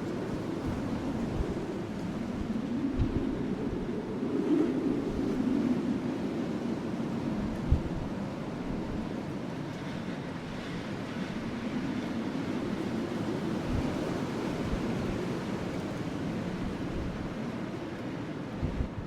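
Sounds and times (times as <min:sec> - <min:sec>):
rushing wind: 0:00.0 - 0:19.0.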